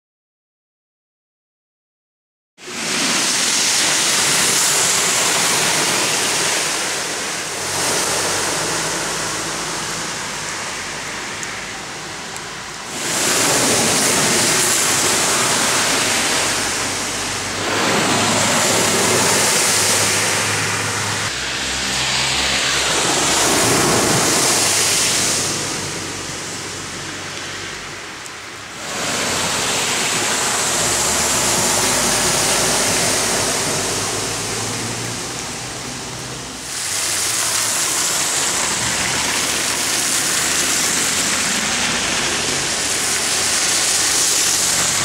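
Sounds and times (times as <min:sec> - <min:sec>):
tyres splashing through water: 0:02.6 - 0:45.0
low engine hum: 0:04.3 - 0:45.0.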